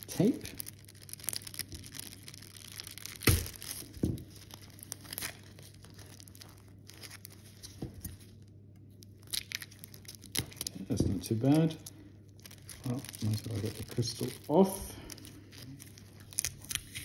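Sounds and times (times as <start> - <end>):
adhesive tape peeling and crinkling: 0.0 - 17.0.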